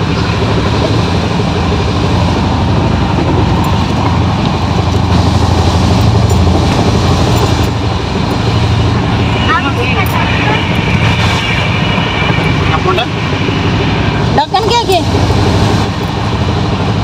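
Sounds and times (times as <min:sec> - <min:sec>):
train coach rumbling: 0:00.0 - 0:17.0.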